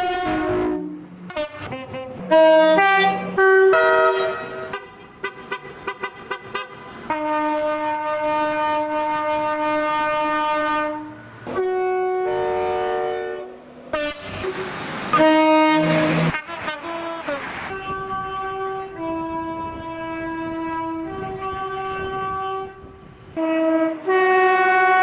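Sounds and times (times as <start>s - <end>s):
passing train rushing: 0.0s - 25.0s
train horn blasts: 0.0s - 25.0s.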